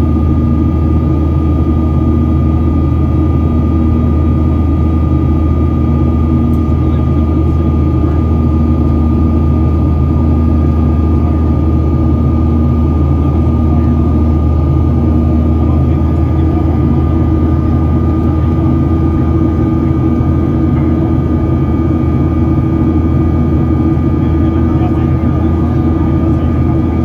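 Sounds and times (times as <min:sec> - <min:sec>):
airplane engines rumbling: 0:00.0 - 0:27.0
thin steady whine: 0:00.0 - 0:27.0.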